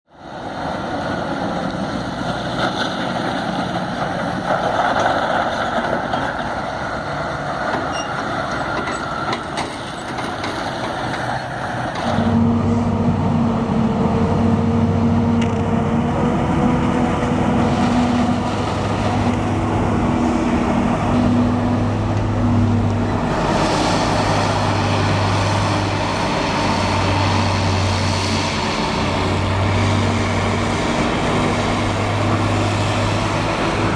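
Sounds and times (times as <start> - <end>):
heavy diesel farm machinery running: 0.2 - 33.9
loud steady engine drone: 0.2 - 33.9.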